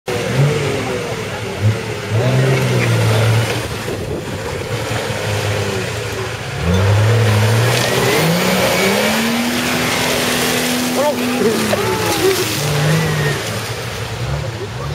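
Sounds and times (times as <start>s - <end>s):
engine revving hard: 0.1s - 14.9s.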